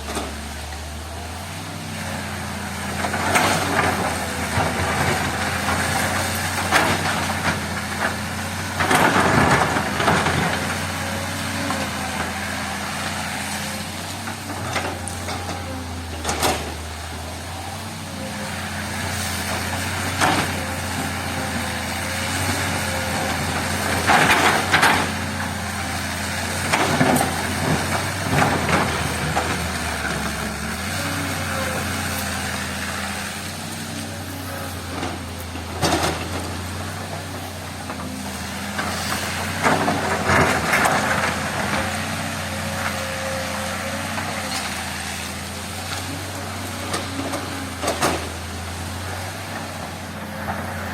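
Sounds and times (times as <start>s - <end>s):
heavy diesel engine under load: 0.0s - 50.9s
rock and soil scraping and clanking: 0.0s - 50.9s.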